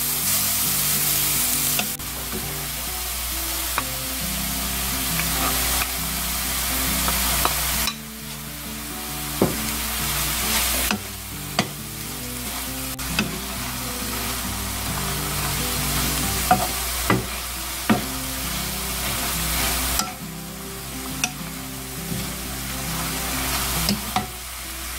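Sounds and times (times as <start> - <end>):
soft background music: 0.0 - 24.9
vegetables sizzling in a frying pan: 0.0 - 24.9.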